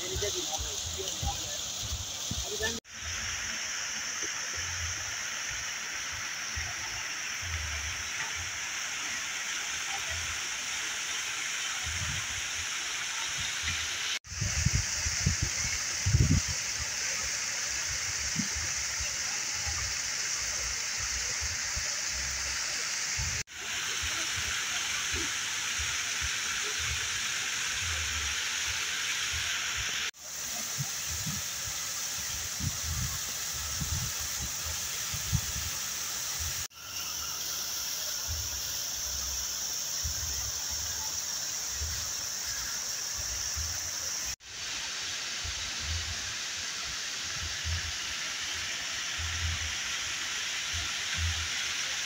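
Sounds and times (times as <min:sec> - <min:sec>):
waterfall rushing water: 0:00.0 - 0:52.0.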